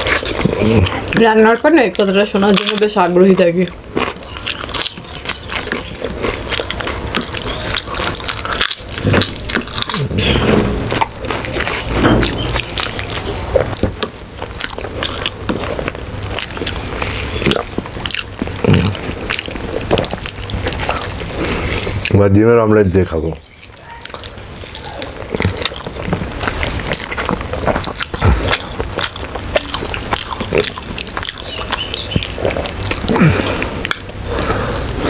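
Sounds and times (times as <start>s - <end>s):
chewing and mouth sounds: 0.0s - 22.3s, 22.9s - 35.0s.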